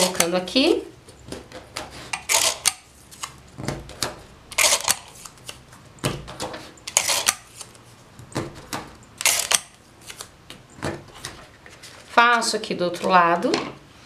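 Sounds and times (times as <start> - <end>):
paper and card rustling: 1.4 - 10.3, 11.1 - 13.4.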